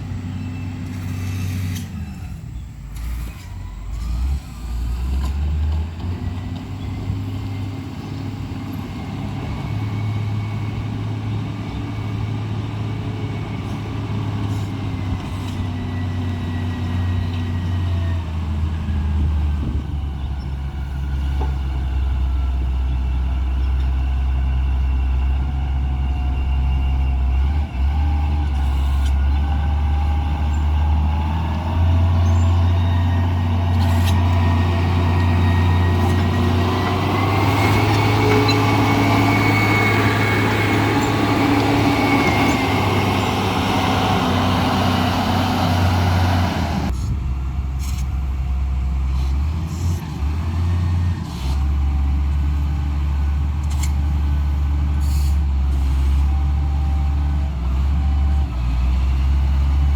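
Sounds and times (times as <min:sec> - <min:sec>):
high engine whine: 0:00.0 - 0:49.1
heavy diesel engine rumbling: 0:00.0 - 0:59.9.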